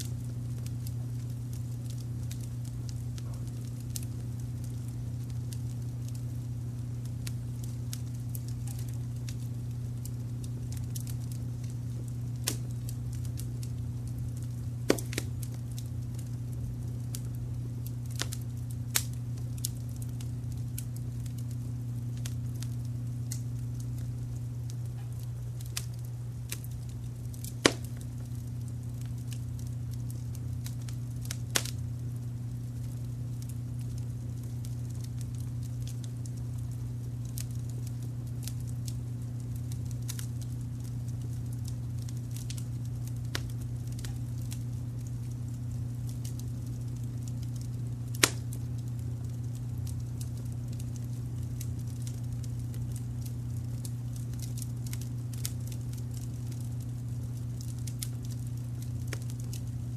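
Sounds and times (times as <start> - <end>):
low noise bed: 0.0 - 59.9
wood fire crackling and popping: 0.0 - 59.9.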